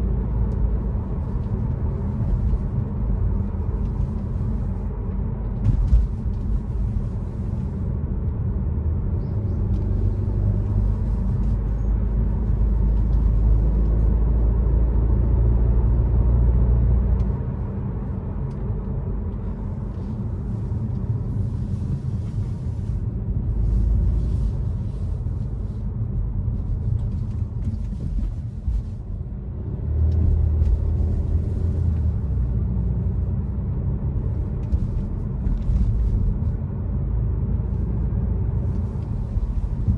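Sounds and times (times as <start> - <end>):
car engine droning while driving: 0.0 - 39.9.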